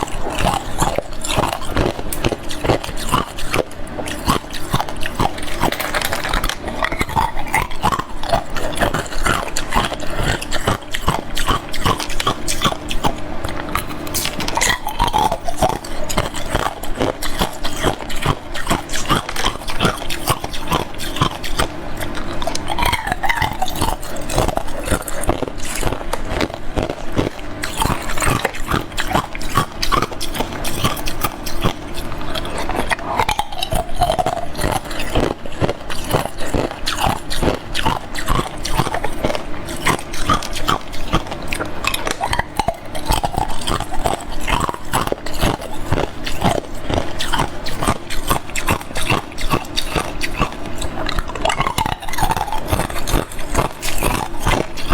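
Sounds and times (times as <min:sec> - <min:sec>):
chewing ice cubes: 0:00.0 - 0:54.9.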